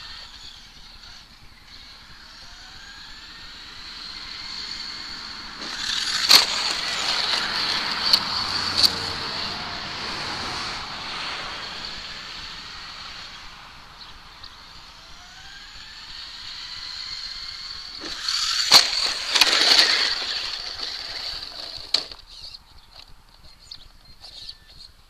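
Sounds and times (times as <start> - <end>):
electric toy truck motor whine: 0.0 - 24.8.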